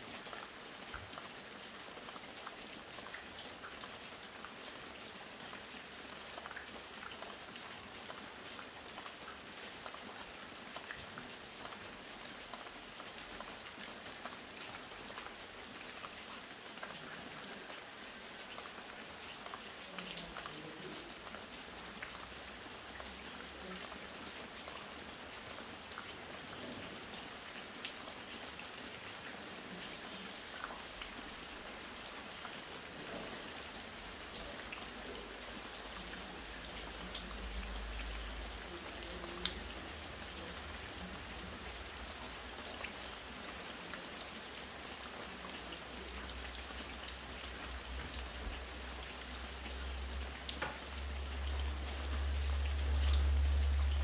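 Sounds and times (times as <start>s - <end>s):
light rain falling: 0.0s - 54.0s
drops dripping from roof: 0.1s - 54.0s.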